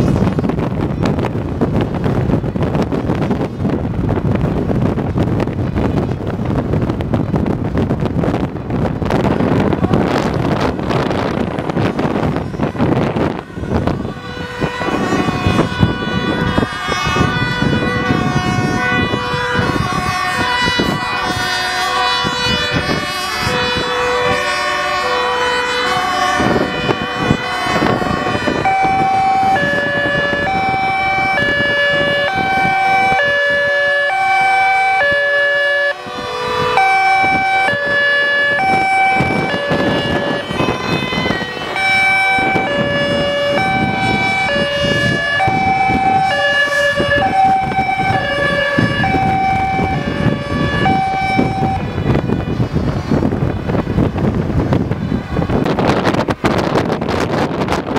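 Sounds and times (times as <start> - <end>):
moving vehicle rumble: 0.0 - 57.9
two-tone emergency sirens: 0.0 - 57.9.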